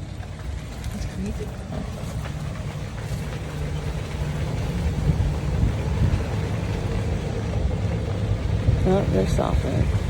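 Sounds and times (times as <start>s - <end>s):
car road noise rumble: 0.0s - 10.0s.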